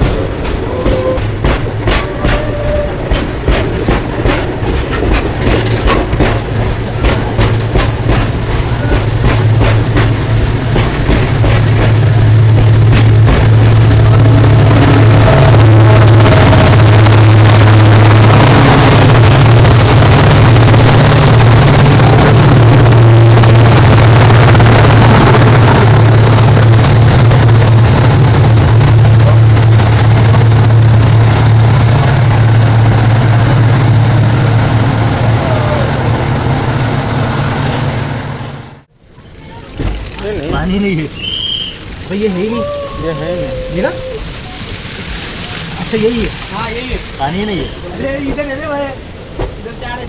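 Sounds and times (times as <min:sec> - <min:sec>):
passenger train rumble: 0:00.0 - 0:50.0.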